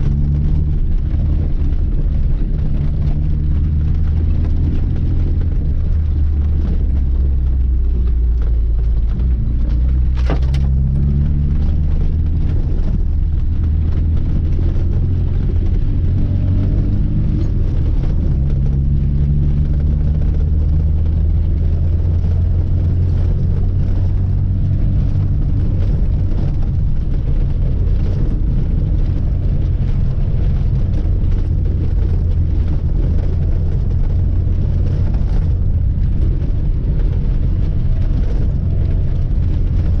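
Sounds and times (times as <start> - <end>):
car engine running: 0.0 - 40.0
road noise: 0.0 - 40.0.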